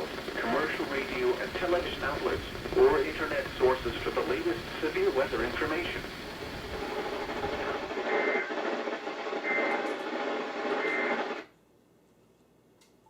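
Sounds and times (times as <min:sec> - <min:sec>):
radio hiss: 0:00.0 - 0:11.5.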